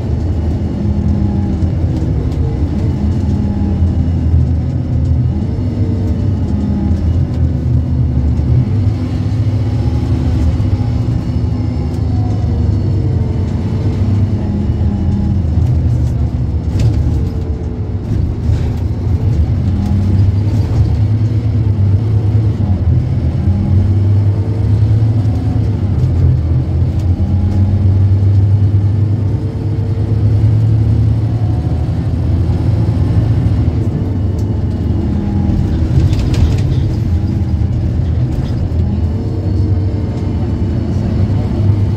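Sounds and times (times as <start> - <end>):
bus diesel engine rumble: 0.0 - 41.9.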